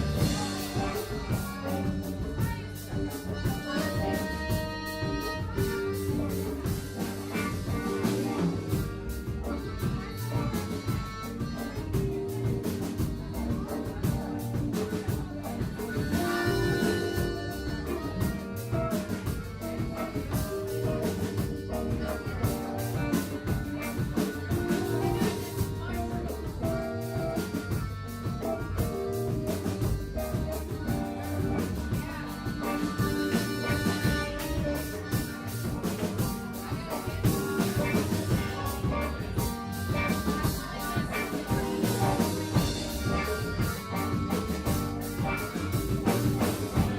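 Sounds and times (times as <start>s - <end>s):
drum kit: 0.0s - 46.9s
guitar: 0.0s - 46.9s
live band playing: 0.0s - 46.9s
sustained pitched notes: 0.0s - 46.9s.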